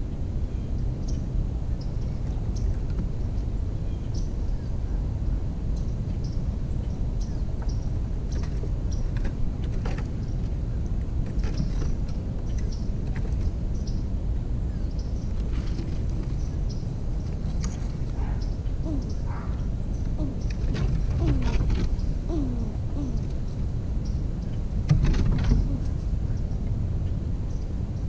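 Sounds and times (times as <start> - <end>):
steady low rumble: 0.0 - 28.0
birds chirping: 0.1 - 28.0.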